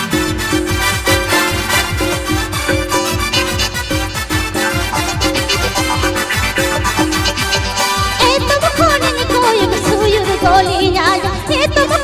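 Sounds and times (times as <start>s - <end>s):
fast drum beat: 0.0s - 12.0s
held keyboard melody: 0.0s - 12.0s.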